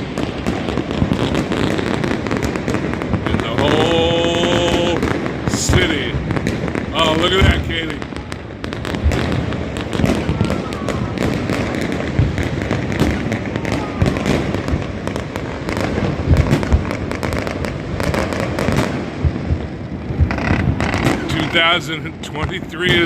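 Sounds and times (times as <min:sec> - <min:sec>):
fireworks crackling and popping: 0:00.0 - 0:23.0
heavy fireworks bangs: 0:00.0 - 0:23.0.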